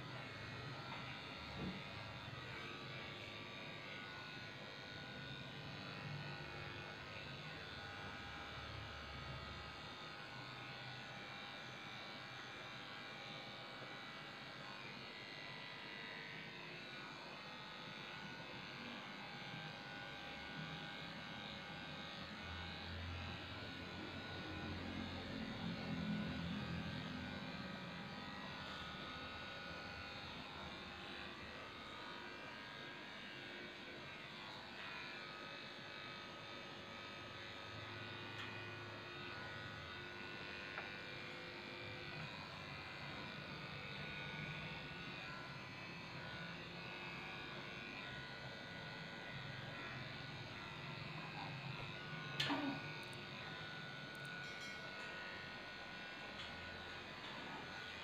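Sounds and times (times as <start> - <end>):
electric clippers humming: 0.0 - 58.0.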